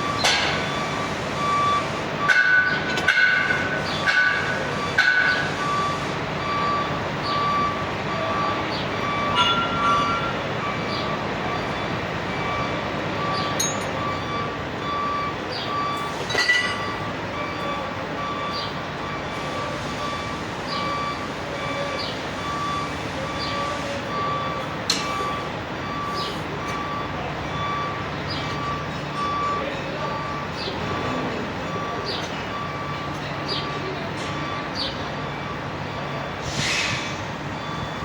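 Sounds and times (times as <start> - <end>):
workshop noise: 0.0 - 38.0.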